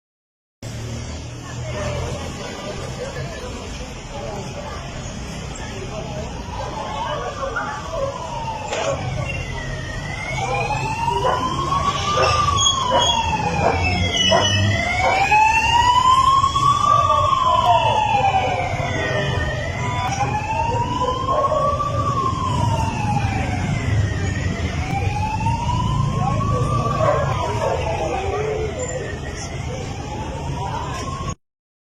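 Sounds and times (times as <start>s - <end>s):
emergency siren wailing: 1.4s - 31.4s.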